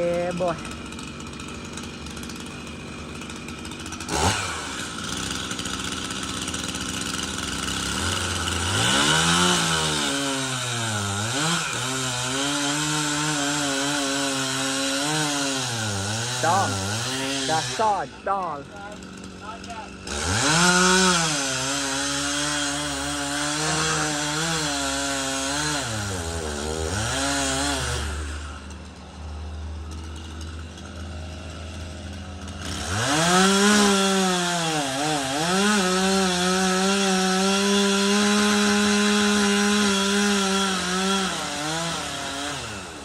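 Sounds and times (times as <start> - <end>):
chainsaw cutting wood: 0.0 - 43.0
chainsaw idling: 0.0 - 43.0.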